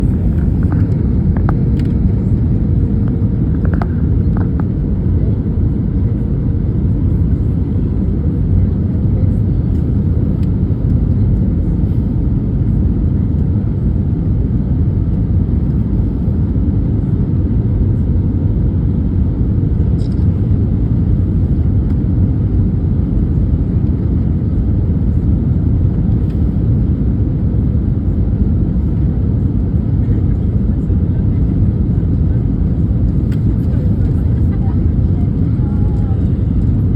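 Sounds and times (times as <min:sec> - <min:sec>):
airliner rumbling on approach: 0:00.0 - 0:36.9.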